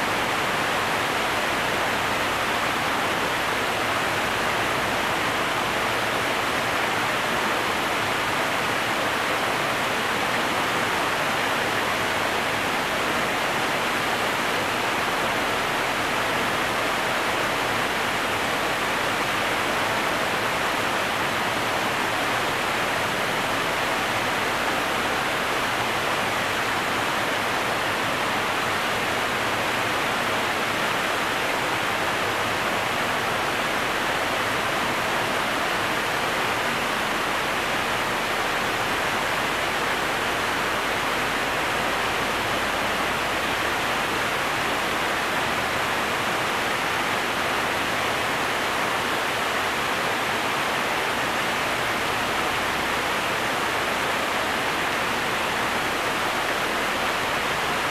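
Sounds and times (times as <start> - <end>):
water rushing: 0.0 - 57.9.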